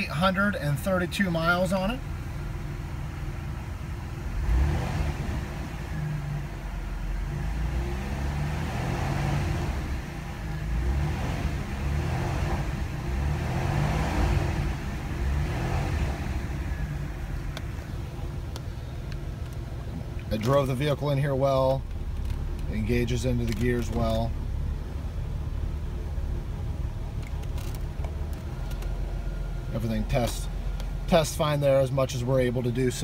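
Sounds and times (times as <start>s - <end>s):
car engine revving: 0.8s - 33.0s.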